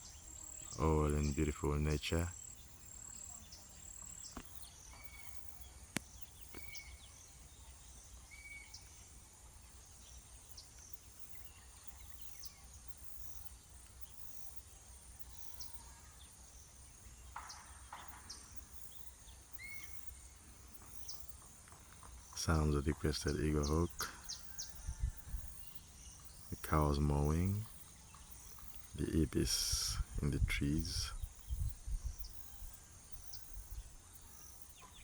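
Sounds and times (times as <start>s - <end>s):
faint bird chirps: 0.0s - 21.4s, 22.2s - 35.0s.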